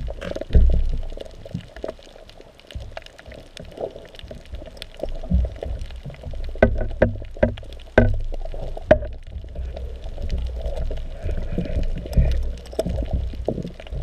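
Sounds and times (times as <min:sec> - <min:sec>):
water sloshing and gurgling: 0:00.0 - 0:14.0.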